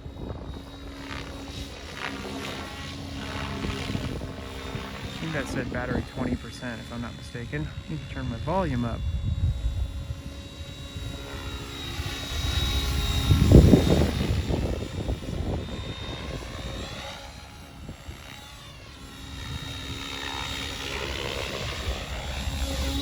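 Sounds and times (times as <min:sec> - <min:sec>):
rc helicopter motor whine: 0:00.0 - 0:23.0.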